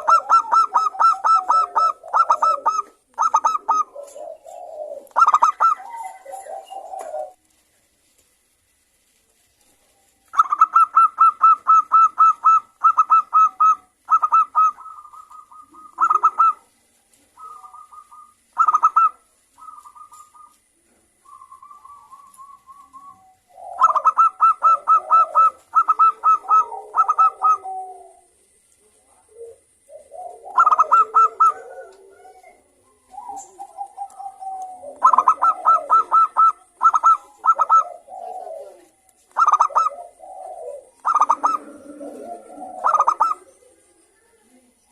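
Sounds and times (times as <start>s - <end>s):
doves cooing: 0.0s - 7.6s, 9.6s - 44.9s.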